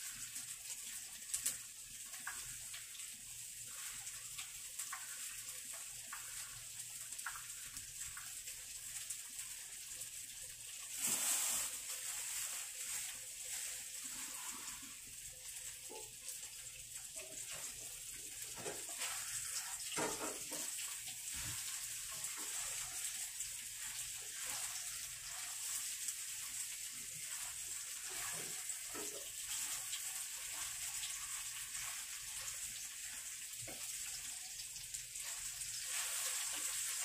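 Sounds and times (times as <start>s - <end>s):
gas stove burner hissing: 0.0s - 37.0s.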